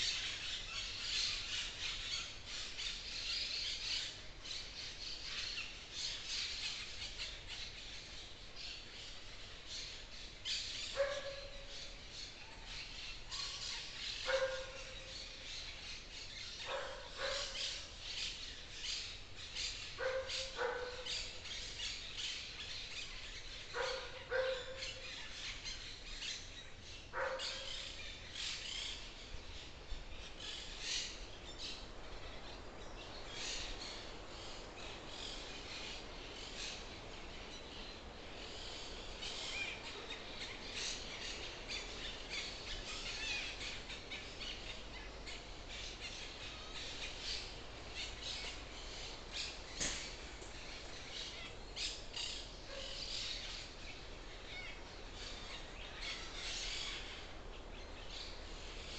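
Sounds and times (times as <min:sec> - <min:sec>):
birds chirping and singing: 0:00.0 - 0:58.9.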